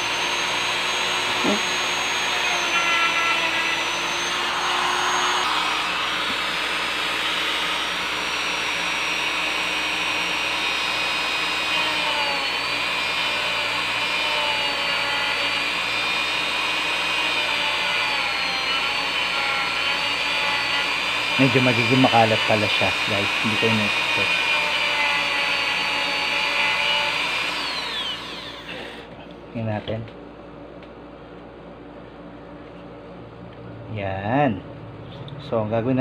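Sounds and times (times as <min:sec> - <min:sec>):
rotary tool cutting plastic: 0:00.0 - 0:29.1.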